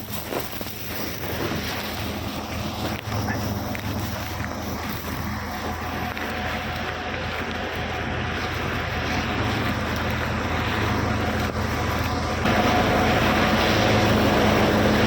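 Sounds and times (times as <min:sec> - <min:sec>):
engine hum: 0:00.0 - 0:15.0
threshing machine running: 0:00.0 - 0:15.0.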